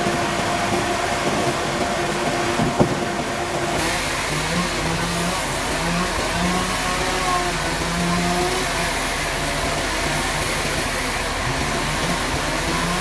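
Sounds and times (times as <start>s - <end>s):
sawmill machinery whining: 0.0s - 13.0s.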